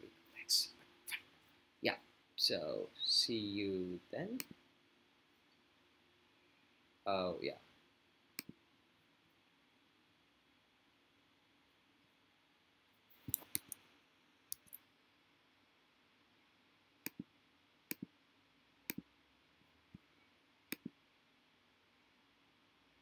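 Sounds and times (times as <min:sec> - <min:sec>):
faint room noise: 0:00.0 - 0:23.0.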